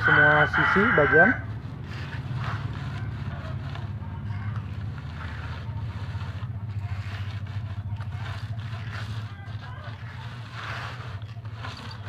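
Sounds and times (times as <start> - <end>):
paint roller swishing: 0.0 - 12.0.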